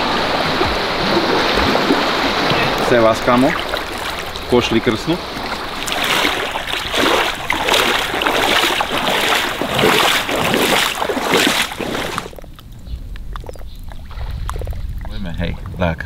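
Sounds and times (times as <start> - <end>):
wading through shallow water: 0.0 - 15.8.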